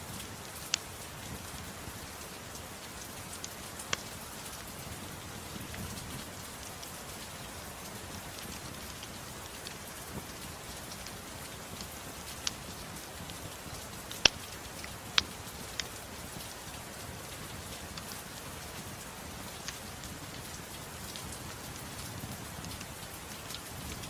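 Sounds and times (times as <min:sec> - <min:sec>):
steady rain hiss: 0:00.0 - 0:24.0
wood fire crackling: 0:00.0 - 0:24.0.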